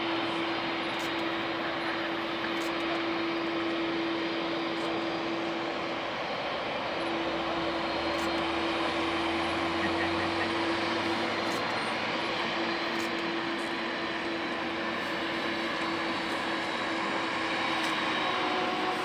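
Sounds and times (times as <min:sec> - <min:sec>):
jet engines at taxi power: 0:00.0 - 0:19.0.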